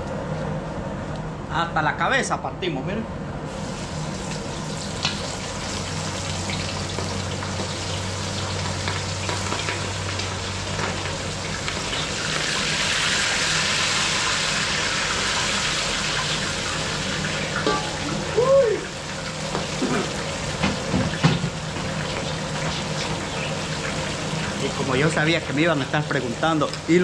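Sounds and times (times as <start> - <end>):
fish frying in oil: 3.5 - 27.0.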